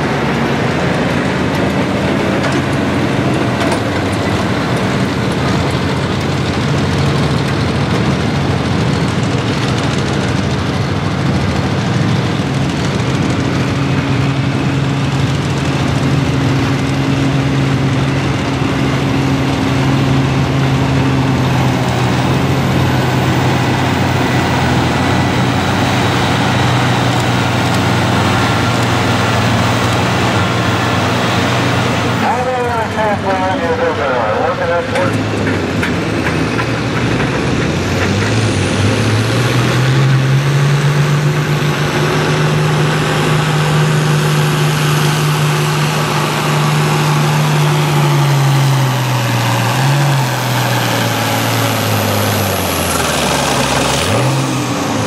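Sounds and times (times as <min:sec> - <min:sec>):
tractor engine running hard: 0:00.0 - 0:55.0.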